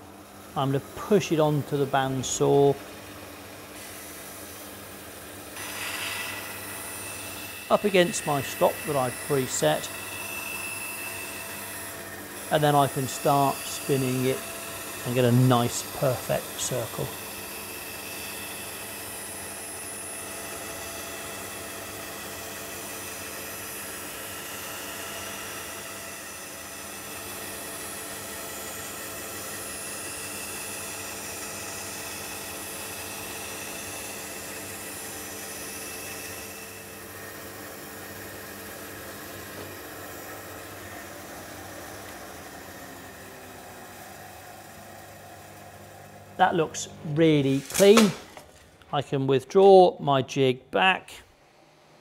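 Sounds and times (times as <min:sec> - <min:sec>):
bandsaw cutting plywood: 0:05.6 - 0:45.3, 0:46.4 - 0:48.5.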